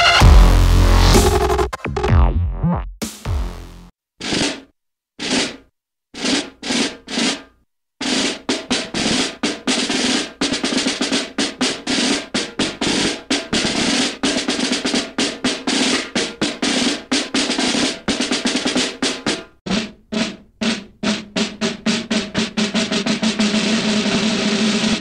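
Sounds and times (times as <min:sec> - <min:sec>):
snare drum roll: 0:04.2 - 0:05.6, 0:06.2 - 0:25.0.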